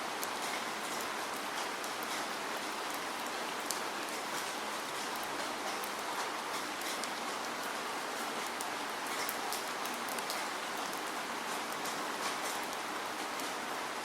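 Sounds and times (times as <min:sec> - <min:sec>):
steady rain: 0:00.0 - 0:14.0
raindrops spattering on a surface: 0:00.1 - 0:14.0.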